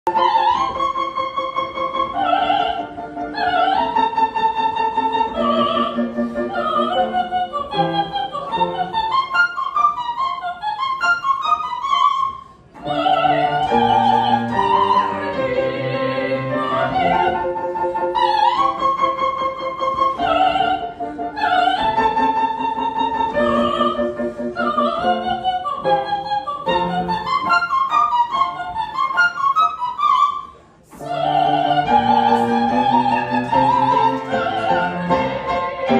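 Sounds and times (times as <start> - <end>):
opera singing with accompaniment: 0.1 - 35.9.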